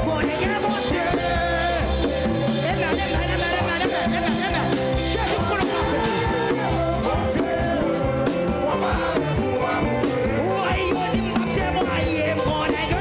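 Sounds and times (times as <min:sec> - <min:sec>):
live band with drums and bass: 0:00.0 - 0:13.0
people singing: 0:00.0 - 0:13.0.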